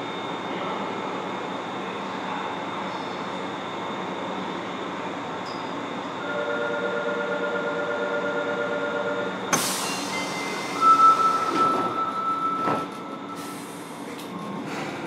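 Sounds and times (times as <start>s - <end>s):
subway car running noise: 0.0s - 15.0s.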